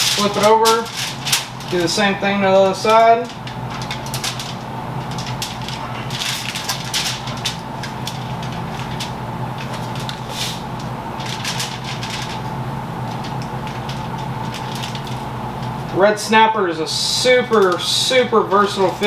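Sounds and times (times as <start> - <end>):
foil crinkling: 0.0 - 15.9, 17.2 - 19.0
steady low hum: 0.0 - 19.0.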